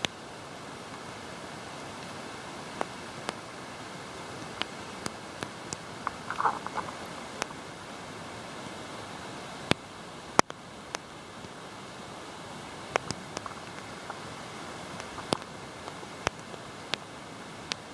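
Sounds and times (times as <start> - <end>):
raindrops ticking: 0.0 - 8.4, 9.6 - 17.9
rain hissing: 0.0 - 17.9.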